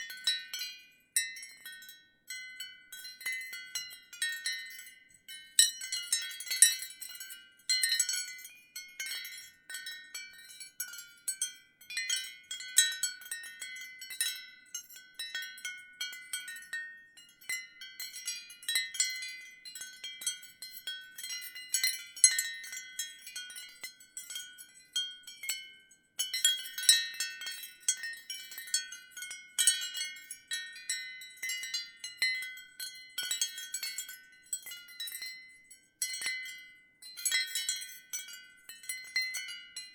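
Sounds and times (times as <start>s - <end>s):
ceramic wind chimes clinking: 0.0s - 39.9s.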